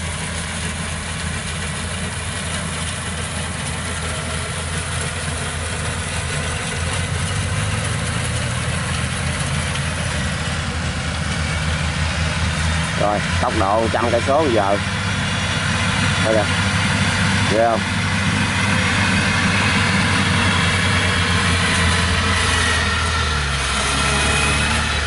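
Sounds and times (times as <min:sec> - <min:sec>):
combine harvester running: 0:00.0 - 0:25.0.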